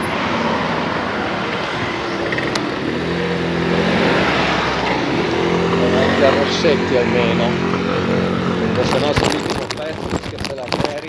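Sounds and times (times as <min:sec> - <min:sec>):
street traffic rushing: 0:00.0 - 0:11.0
vehicle engine humming: 0:00.0 - 0:11.0.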